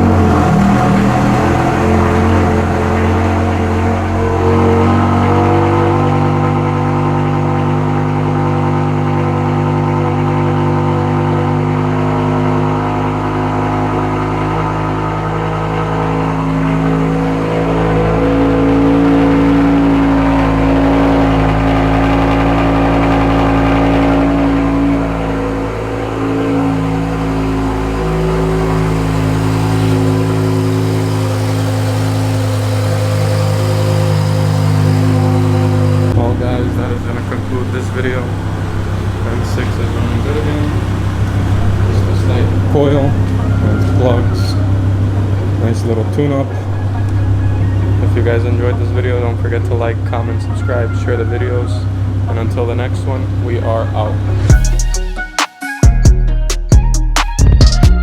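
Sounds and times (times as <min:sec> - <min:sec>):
car engine running steadily: 0:00.0 - 0:55.0.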